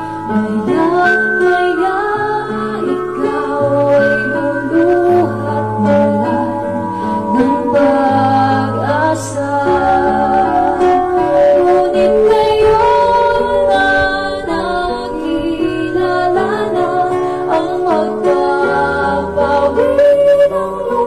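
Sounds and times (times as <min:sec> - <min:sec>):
instrumental backing: 0:00.0 - 0:21.0
two women singing: 0:00.0 - 0:21.0.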